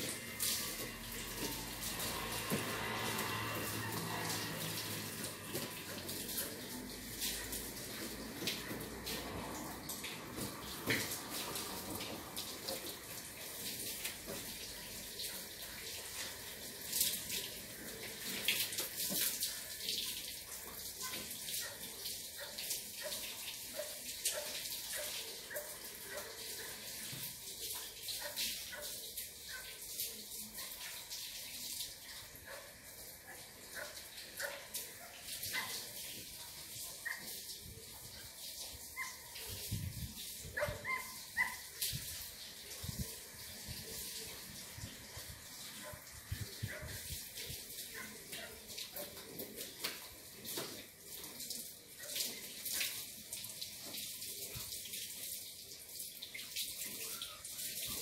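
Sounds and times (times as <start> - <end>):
small splashes and clicks: 0.0 - 58.0
water running: 0.0 - 58.0.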